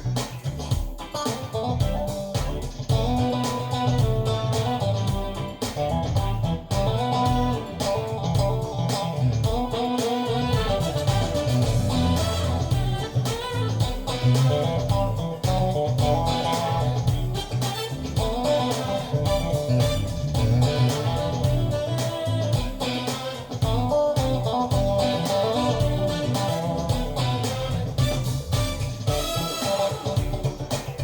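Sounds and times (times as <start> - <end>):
guitar music through loudspeakers: 0.0 - 31.0.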